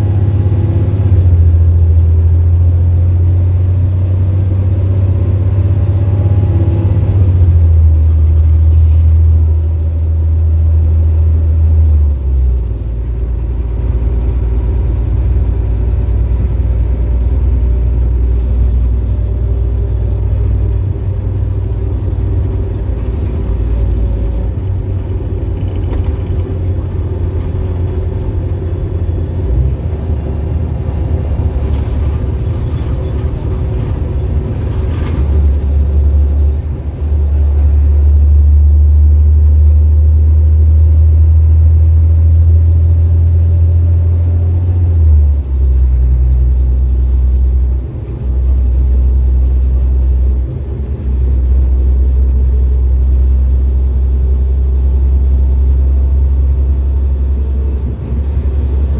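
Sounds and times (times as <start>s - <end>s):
bus engine rumble from inside: 0.0s - 58.9s.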